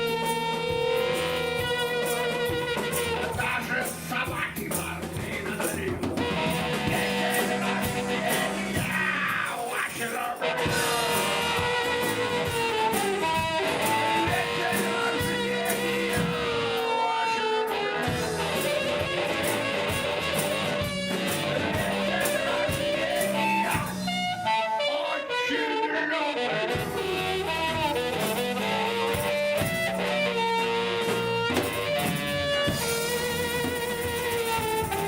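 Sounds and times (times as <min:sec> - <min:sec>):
bending lead guitar melody: 0:00.0 - 0:09.3, 0:10.4 - 0:35.0
live band playing: 0:00.0 - 0:35.0.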